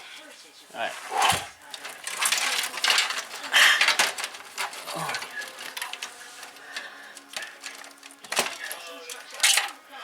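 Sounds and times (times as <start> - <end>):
light clicks and scraping: 1.3 - 10.0
metal parts rattling and clattering: 1.6 - 10.0.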